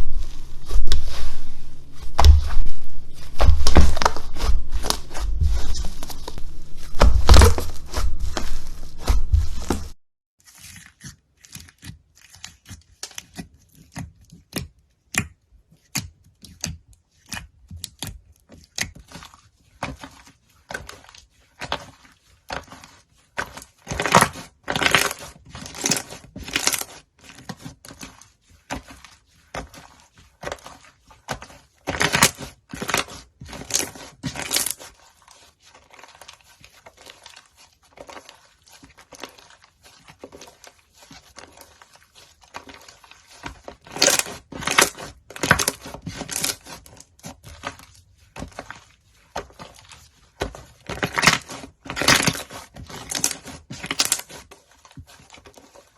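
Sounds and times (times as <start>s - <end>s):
slime squishing and crackling: 0.0s - 55.9s.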